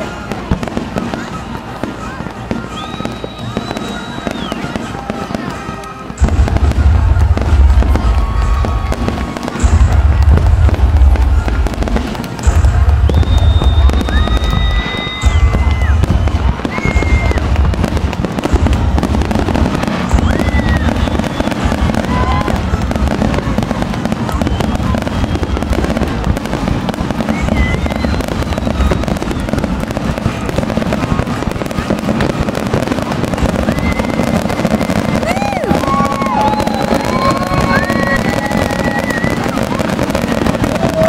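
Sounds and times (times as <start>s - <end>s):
fireworks booming and crackling: 0.0s - 41.0s
fireworks whistling: 0.0s - 41.0s.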